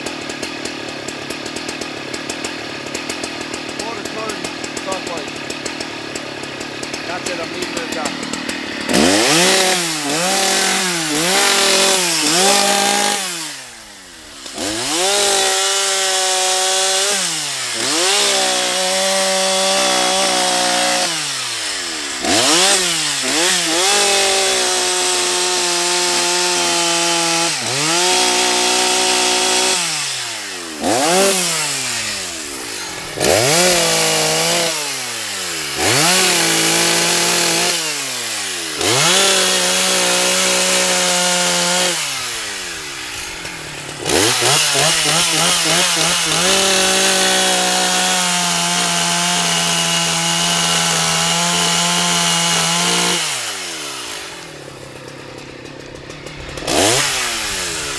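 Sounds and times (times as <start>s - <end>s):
chainsaw engine revving: 0.0s - 57.9s.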